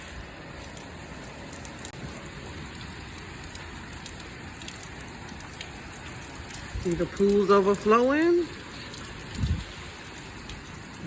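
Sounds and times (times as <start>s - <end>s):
heavy rain pouring: 0.0s - 11.0s
raindrops ticking on surfaces: 0.0s - 11.0s.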